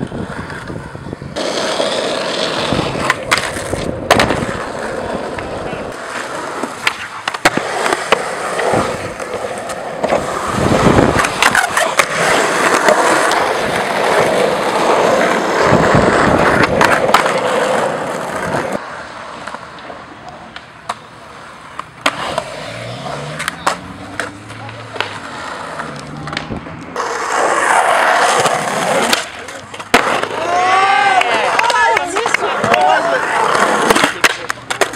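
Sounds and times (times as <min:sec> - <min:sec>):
skateboard wheels rolling on concrete: 0:00.0 - 0:34.9
skateboards clacking: 0:00.0 - 0:34.9.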